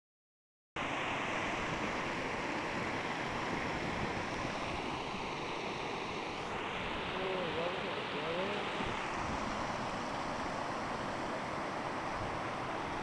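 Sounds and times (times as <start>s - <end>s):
water rushing over rocks: 0.8s - 13.0s.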